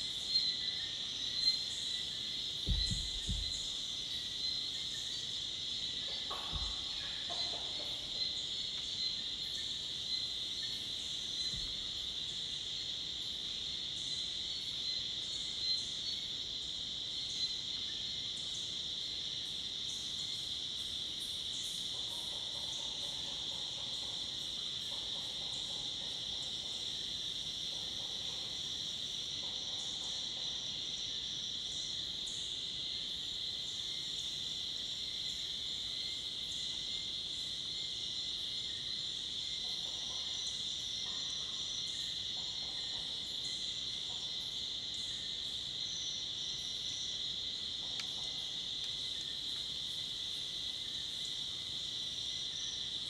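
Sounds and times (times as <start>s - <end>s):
cicadas and crickets shrilling: 0.0s - 53.0s.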